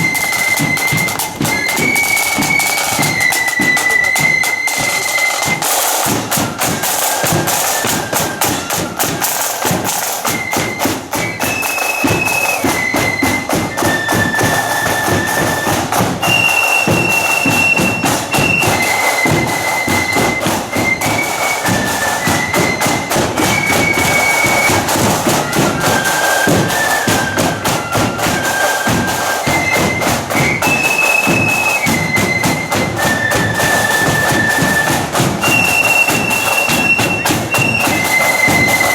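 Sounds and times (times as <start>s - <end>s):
flutes playing melody: 0.0s - 38.9s
rapid snare drumming: 0.0s - 38.9s.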